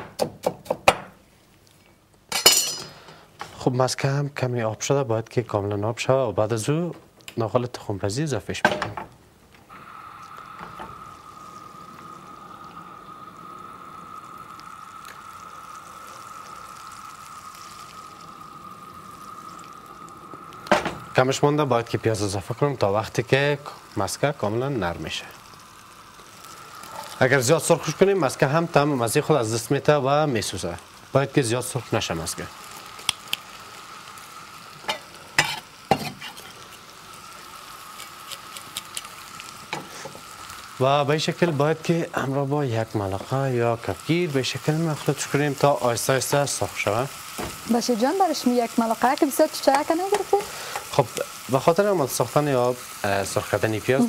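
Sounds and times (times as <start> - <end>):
butter sizzling in a frying pan: 2.3 - 54.0
faint crackles: 9.1 - 54.0.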